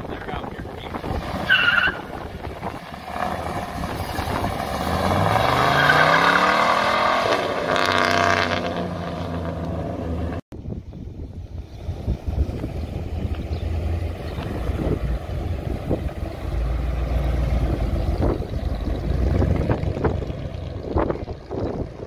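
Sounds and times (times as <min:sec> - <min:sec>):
car engine accelerating: 0:00.9 - 0:10.4, 0:11.6 - 0:22.0.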